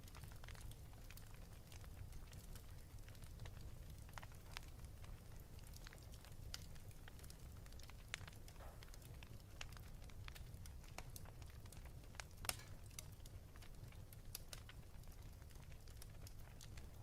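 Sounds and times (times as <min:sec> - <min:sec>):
fire popping: 0:00.0 - 0:17.0
wood fire crackling: 0:00.0 - 0:17.0.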